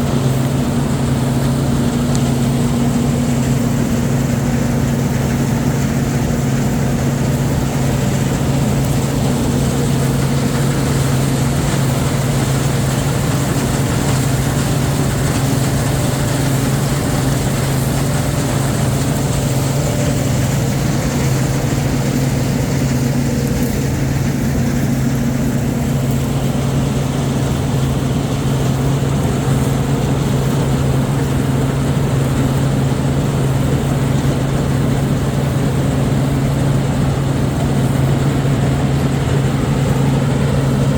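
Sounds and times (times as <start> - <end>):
farm machinery engine running: 0.0 - 40.9.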